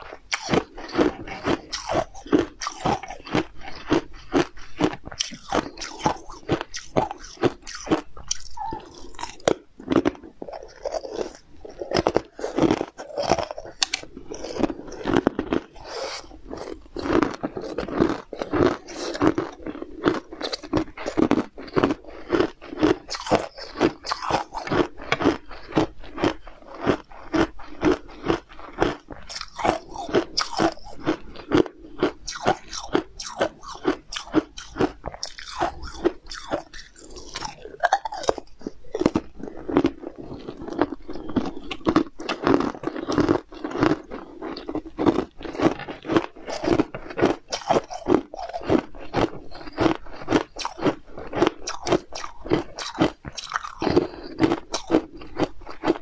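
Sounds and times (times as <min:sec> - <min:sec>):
chewing: 0:00.0 - 0:56.0
crunching hard candy: 0:00.0 - 0:56.0.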